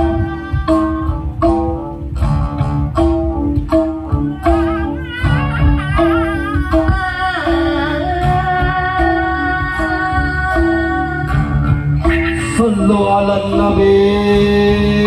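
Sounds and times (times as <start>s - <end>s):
rhythmic low pulse: 0.0s - 15.0s
wavering melody: 0.0s - 15.0s.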